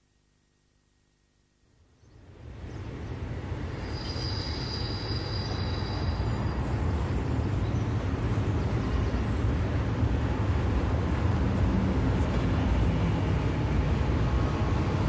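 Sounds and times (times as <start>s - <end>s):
diesel railcar rumbling: 2.2s - 15.0s.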